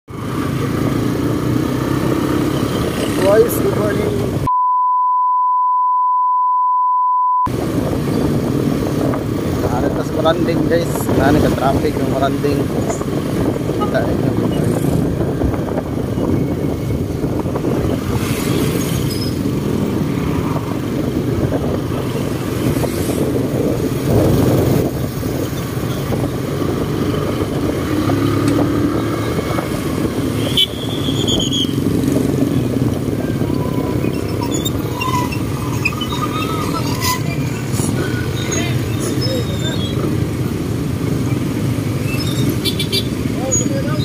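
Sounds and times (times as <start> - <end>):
passing motorcycles: 0.1 - 4.5, 7.5 - 44.0.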